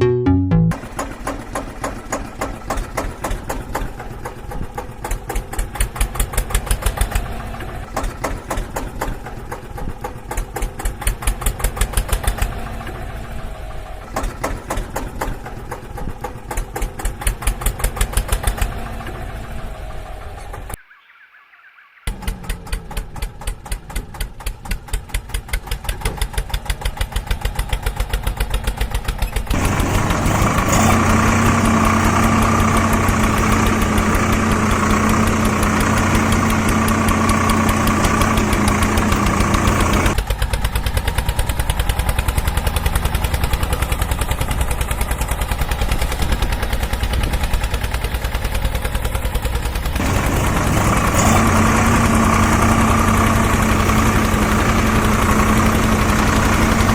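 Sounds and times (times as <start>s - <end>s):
engine idling in pulses: 0.8s - 20.8s, 22.1s - 56.9s.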